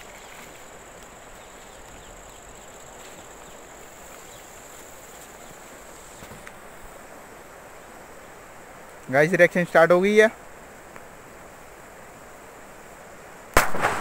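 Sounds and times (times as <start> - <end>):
insects chirring: 0.0 - 11.8
soft background hiss: 0.0 - 14.0.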